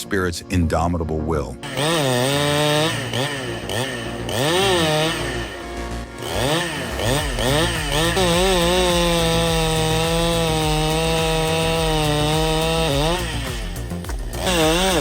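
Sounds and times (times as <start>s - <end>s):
chainsaw cutting wood: 1.6s - 15.0s.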